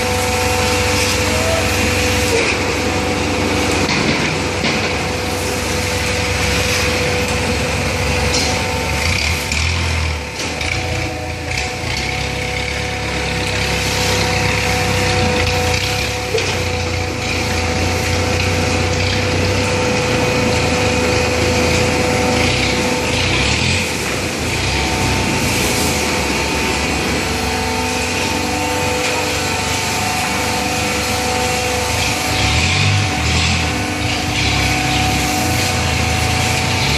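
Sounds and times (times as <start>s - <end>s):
hydraulic baler humming: 0.0s - 36.9s
machine whine: 0.0s - 36.9s.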